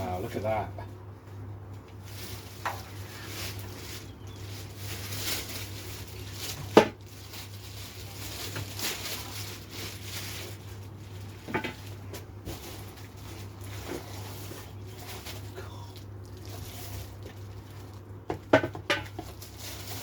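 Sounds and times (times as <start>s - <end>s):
steady low hum: 0.0s - 20.0s
packaging rustling: 2.0s - 20.0s.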